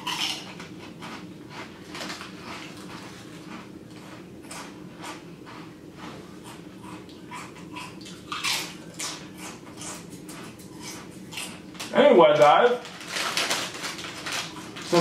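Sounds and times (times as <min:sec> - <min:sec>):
chewing crunchy chips: 0:00.0 - 0:15.0.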